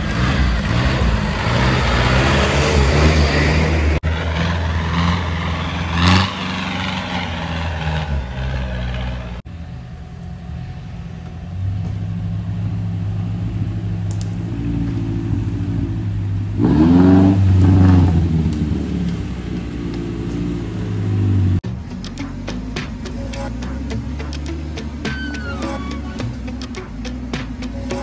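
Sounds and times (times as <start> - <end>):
small engine revving: 0.0 - 9.4, 12.8 - 28.0
off-road vehicle engines: 0.0 - 28.0.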